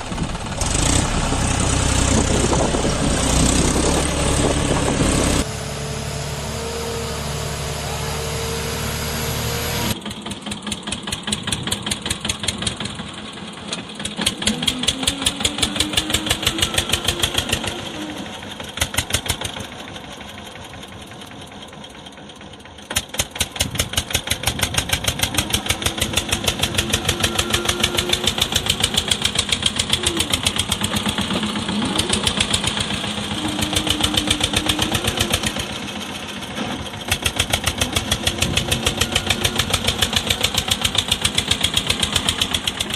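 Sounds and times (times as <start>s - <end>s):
small engine chugging: 0.0s - 5.6s, 6.2s - 42.9s.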